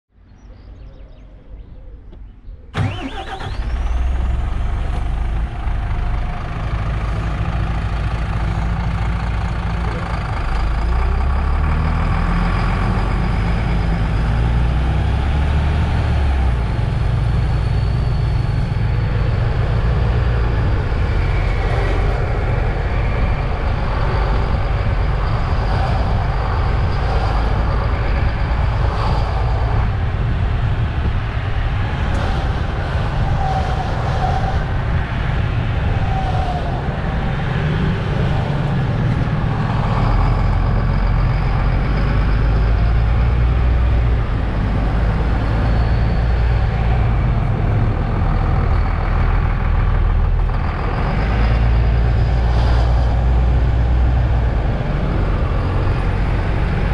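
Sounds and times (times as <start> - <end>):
bus diesel engine running: 2.8 - 56.9.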